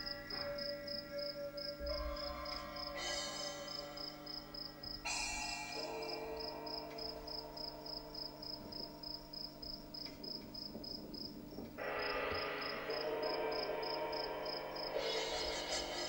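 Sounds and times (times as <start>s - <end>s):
low sustained music tones: 0.0s - 16.0s.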